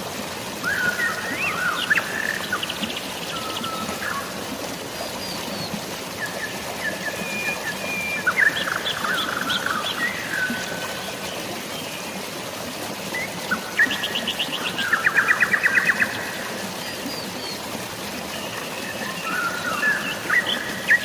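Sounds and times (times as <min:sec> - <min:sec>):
drizzling rain: 0:00.0 - 0:21.0
flowing water: 0:00.0 - 0:21.0.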